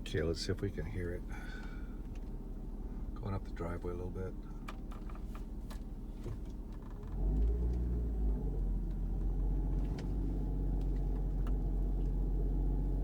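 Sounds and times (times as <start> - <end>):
van engine rumbling uphill: 0.0 - 13.0.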